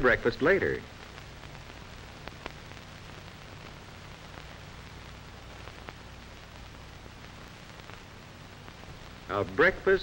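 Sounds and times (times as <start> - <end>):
film soundtrack hiss and hum: 0.0 - 10.0.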